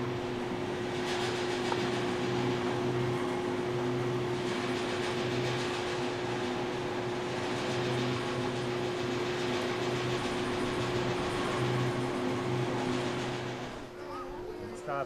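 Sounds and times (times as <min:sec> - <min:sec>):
aerial tramway cabin hum: 0:00.0 - 0:15.0.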